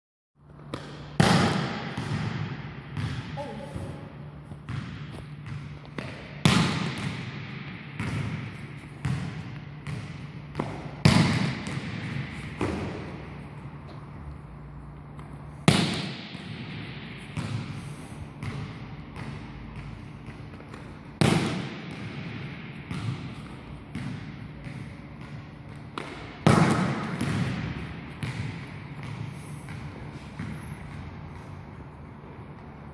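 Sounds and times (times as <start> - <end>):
ball bouncing on hall floor: 0.4 - 32.9
steady low hum: 0.4 - 32.9.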